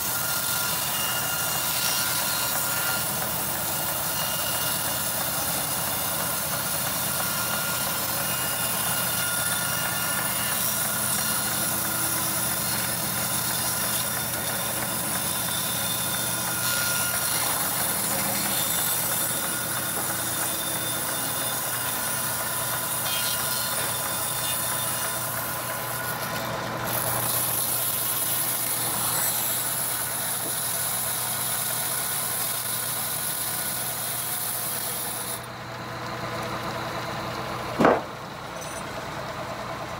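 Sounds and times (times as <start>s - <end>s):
band saw cutting through log: 0.0s - 36.8s.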